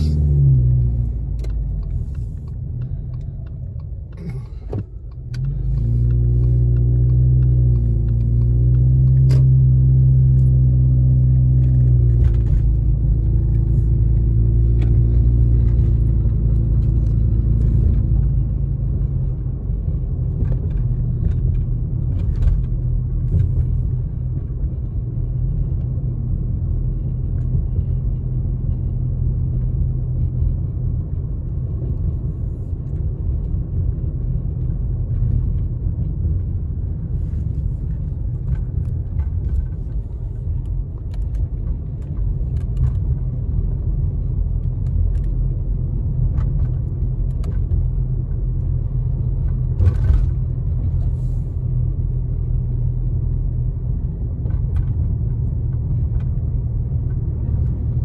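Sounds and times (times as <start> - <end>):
car engine hum: 0.0 - 58.0
tyre road rumble: 0.0 - 58.0.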